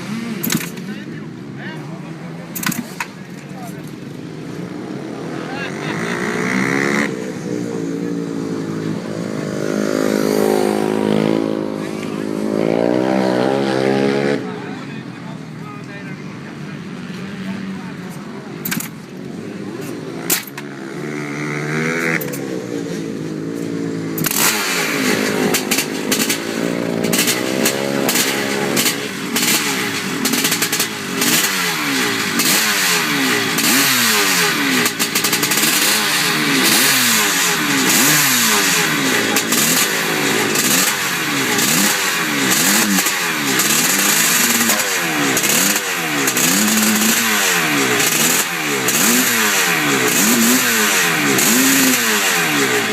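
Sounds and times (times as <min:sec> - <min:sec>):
dirt bike engine revving: 0:00.0 - 0:14.7, 0:17.0 - 0:52.9.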